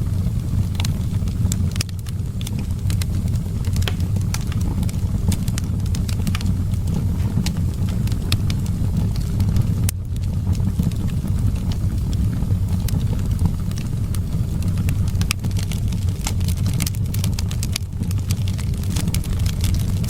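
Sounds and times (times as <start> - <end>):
fire crackling and popping: 0.0 - 20.0
wind rumbling: 0.0 - 20.0.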